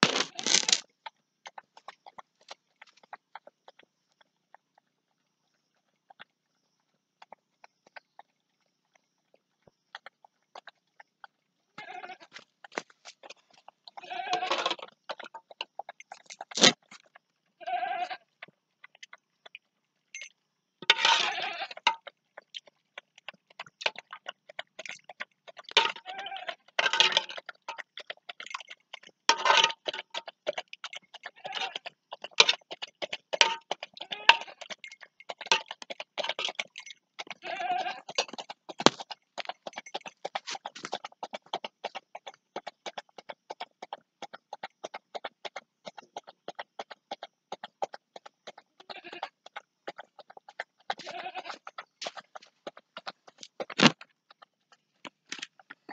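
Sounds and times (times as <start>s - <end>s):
dog lapping from steel bowl: 0.0s - 17.4s, 18.4s - 55.9s.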